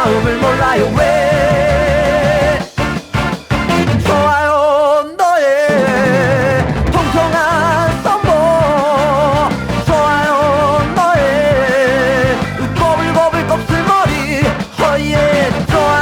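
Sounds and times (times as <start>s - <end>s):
pop-rock instrumental song: 0.0s - 16.0s.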